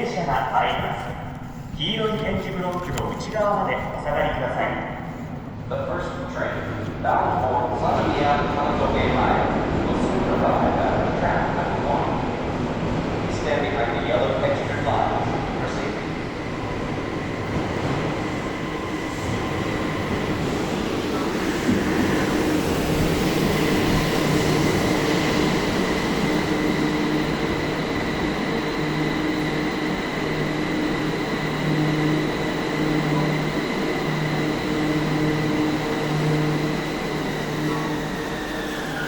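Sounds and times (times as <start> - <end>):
high whine of train drive: 0.0 - 39.0
train running rumble: 0.0 - 39.0.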